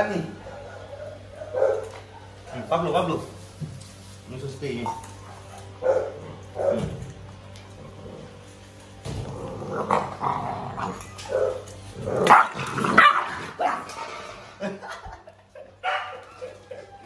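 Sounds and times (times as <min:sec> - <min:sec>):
dogs barking and growling: 0:00.0 - 0:02.7, 0:04.8 - 0:17.0.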